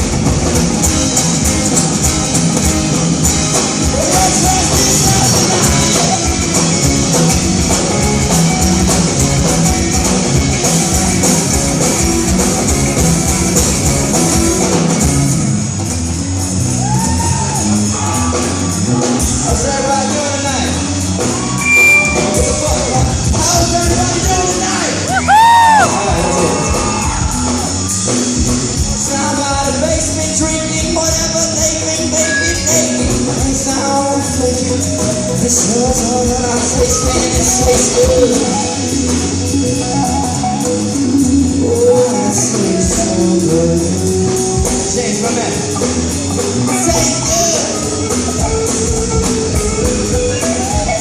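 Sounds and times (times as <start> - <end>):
amplified live band music: 0.0 - 51.0.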